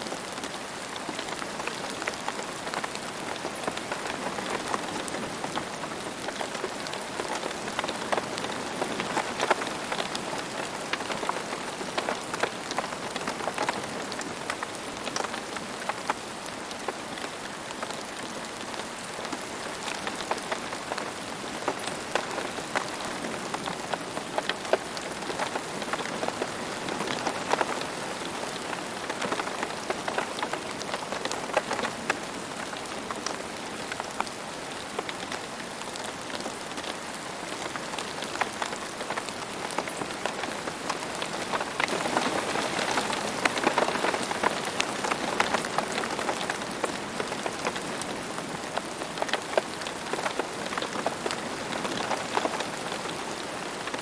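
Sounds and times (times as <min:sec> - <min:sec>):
rain falling on hard surfaces: 0:00.0 - 0:54.0.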